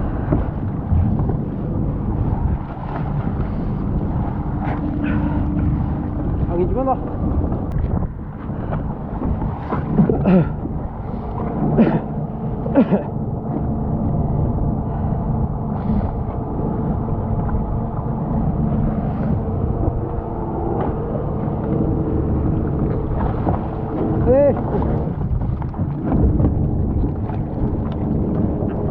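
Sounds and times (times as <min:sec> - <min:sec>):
boat engine running: 0:00.0 - 0:28.9.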